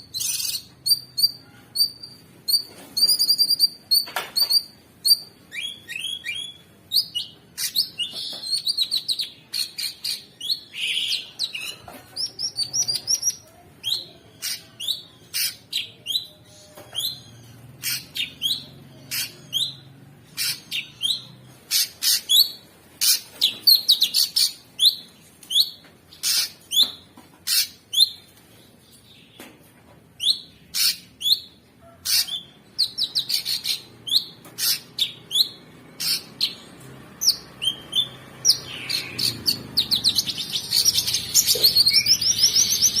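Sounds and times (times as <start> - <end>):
bird chirping and whistling: 0.1 - 19.8, 20.4 - 27.0, 32.1 - 36.6, 37.2 - 43.0.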